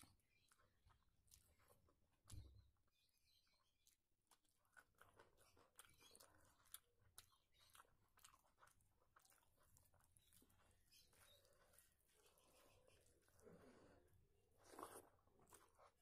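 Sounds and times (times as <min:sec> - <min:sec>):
close-up chewing: 0:00.0 - 0:16.0.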